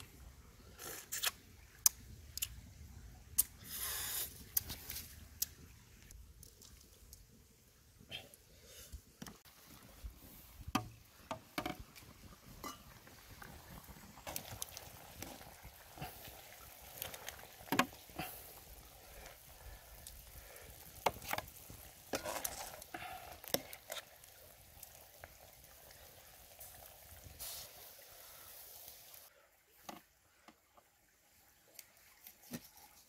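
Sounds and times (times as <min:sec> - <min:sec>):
broth simmering hiss: 0:00.0 - 0:32.8.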